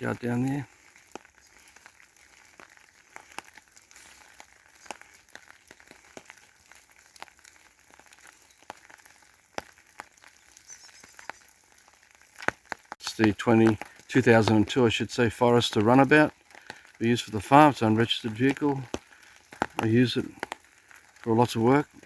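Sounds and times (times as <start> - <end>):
faint clicks and crackles: 0.0 - 22.0.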